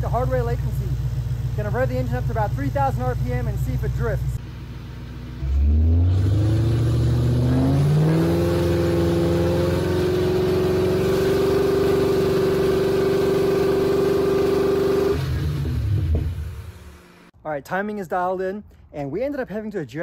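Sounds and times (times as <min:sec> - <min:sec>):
car engine revving: 0:00.0 - 0:17.3.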